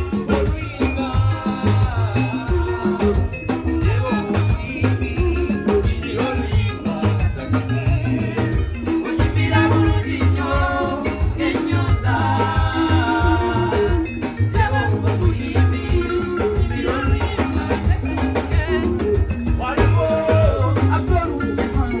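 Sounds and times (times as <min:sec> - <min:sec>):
person singing: 0:00.0 - 0:22.0
pulsing bass line: 0:00.0 - 0:22.0.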